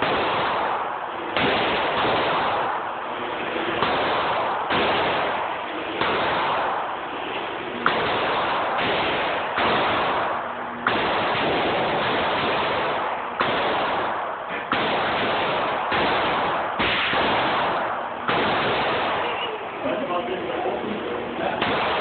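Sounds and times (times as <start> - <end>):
gunshots: 0.0 - 22.0
shooting range noise and echo: 0.0 - 22.0.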